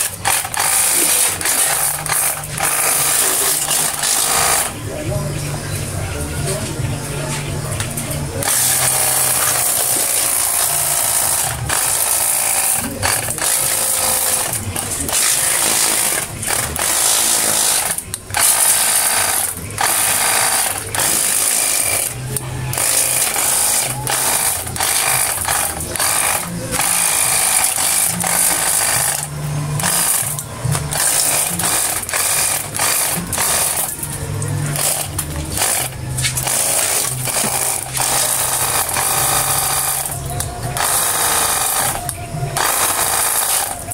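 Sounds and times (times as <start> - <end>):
pump motor whirring: 0.0 - 43.9.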